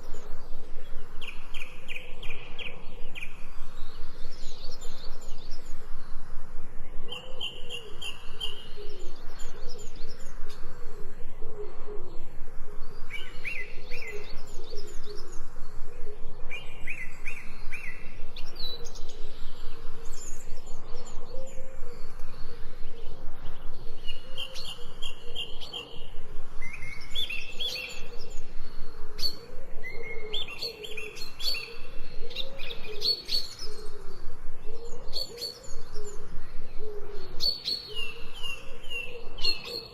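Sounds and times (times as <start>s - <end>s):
lower wavering bird calls: 0.0s - 39.9s.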